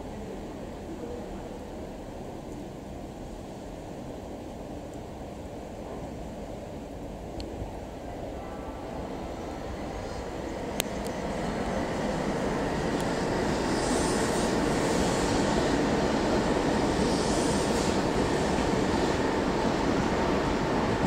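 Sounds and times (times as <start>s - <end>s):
electric train rumble: 0.0s - 21.0s.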